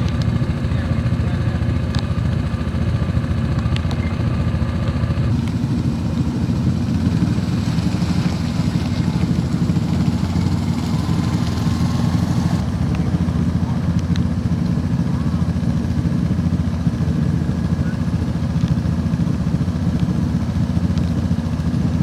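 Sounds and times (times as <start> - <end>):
motor running with low rumble: 0.0 - 22.0.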